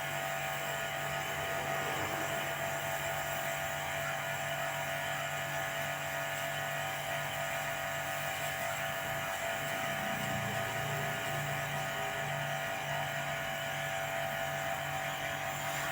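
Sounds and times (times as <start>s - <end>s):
machine hum: 0.0s - 15.7s.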